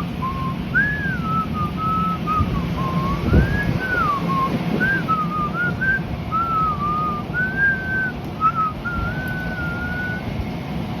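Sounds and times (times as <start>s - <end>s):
low background rumble: 0.0s - 11.0s
person whistling a tune: 0.2s - 10.2s.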